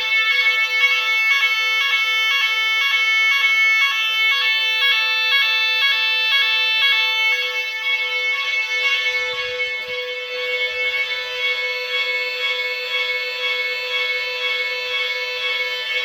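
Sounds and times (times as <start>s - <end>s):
two-tone fire alarm siren: 0.0s - 16.0s.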